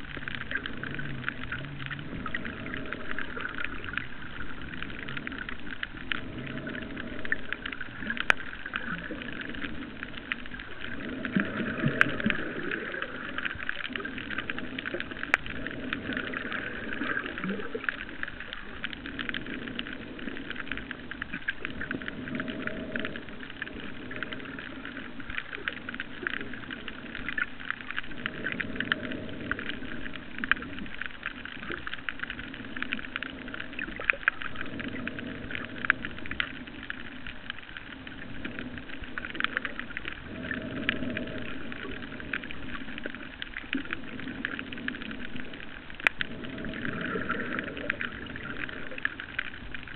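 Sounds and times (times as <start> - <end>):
crackle of fine clicks underwater: 0.0 - 49.9
low underwater rushing: 0.0 - 49.9.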